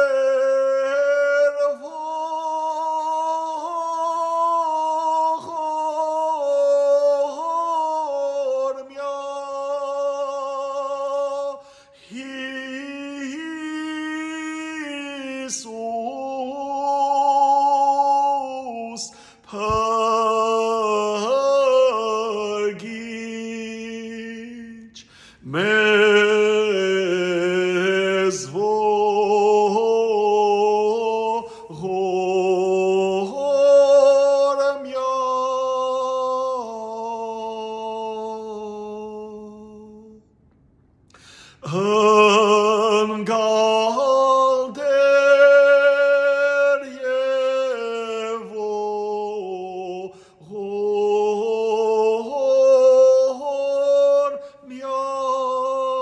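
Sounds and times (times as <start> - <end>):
unaccompanied church chant singing: 0.0 - 40.2, 41.6 - 56.0.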